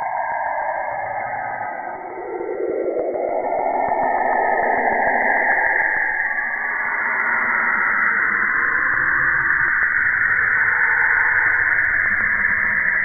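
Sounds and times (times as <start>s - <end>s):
faint whistling tones: 0.0s - 13.0s.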